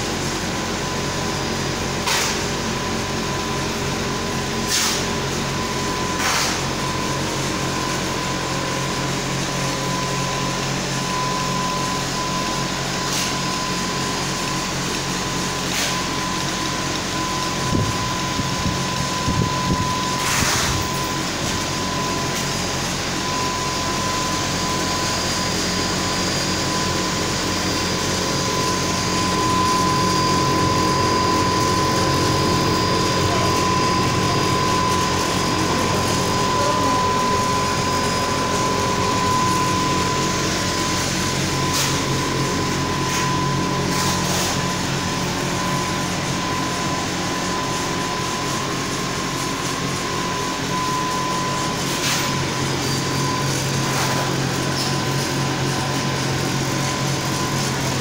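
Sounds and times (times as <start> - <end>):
high whine: 0.0 - 58.0
machinery running: 0.0 - 58.0.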